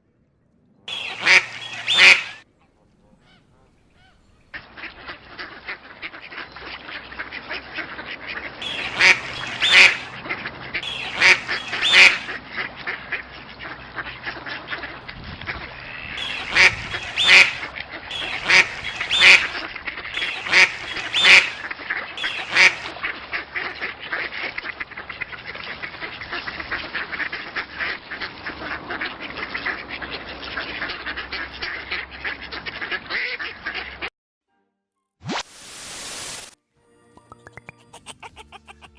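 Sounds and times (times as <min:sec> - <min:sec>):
ducks quacking: 0:00.9 - 0:34.1, 0:37.7 - 0:38.9.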